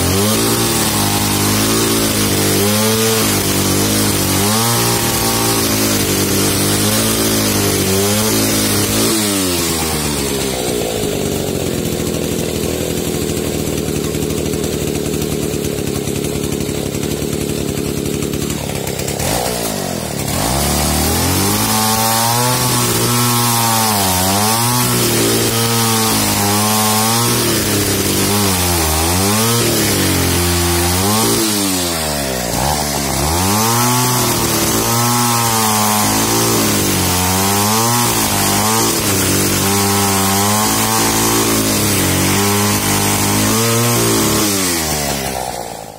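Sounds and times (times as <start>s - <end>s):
chainsaw idling: 0.0s - 45.9s
chainsaw sawing through logs: 0.0s - 45.9s.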